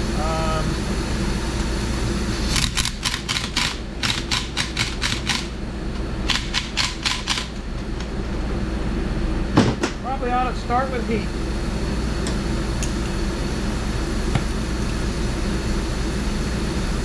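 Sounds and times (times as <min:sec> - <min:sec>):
heater humming: 0:00.0 - 0:17.0.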